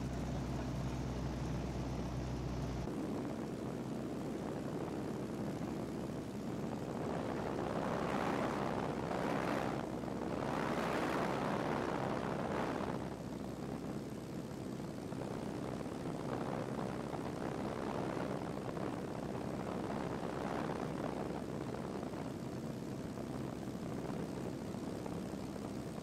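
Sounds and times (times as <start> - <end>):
propeller airplane engine drone: 0.0 - 26.0.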